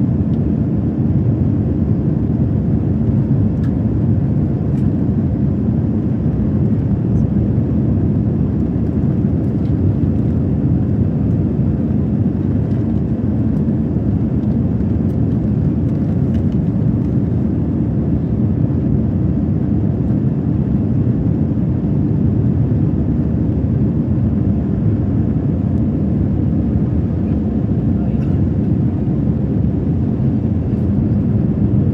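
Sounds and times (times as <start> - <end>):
airplane cabin engine rumble: 0.0 - 31.9.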